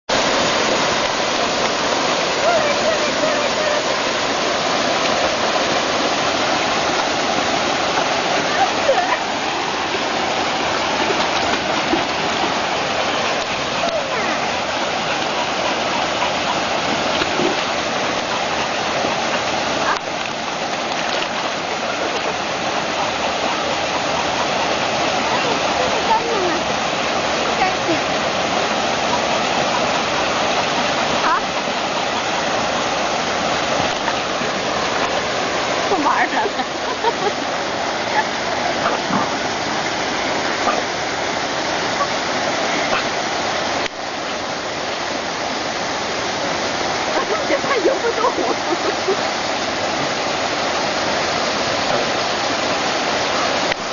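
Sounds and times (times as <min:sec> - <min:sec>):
stream water rushing: 0:00.1 - 0:53.9.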